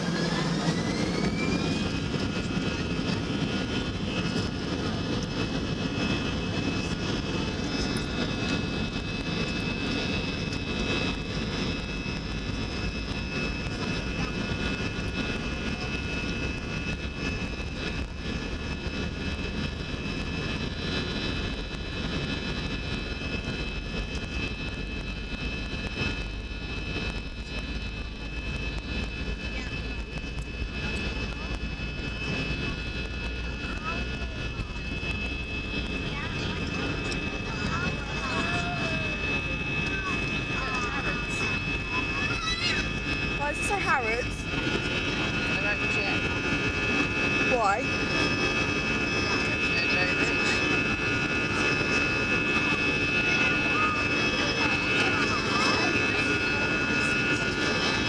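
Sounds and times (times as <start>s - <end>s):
airliner engine whine: 0.0s - 58.0s
low rumble of engines and wheels: 0.0s - 58.0s.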